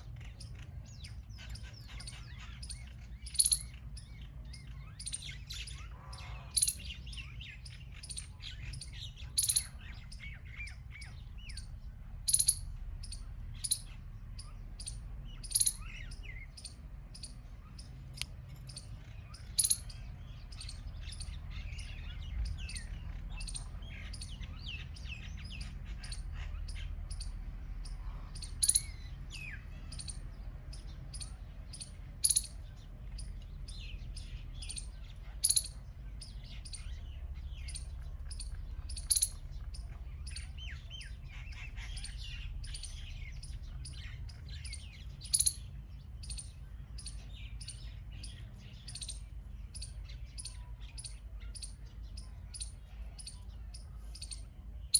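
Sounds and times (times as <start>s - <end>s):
small birds chirping: 0.0s - 54.9s
steady low rumble: 0.0s - 54.9s.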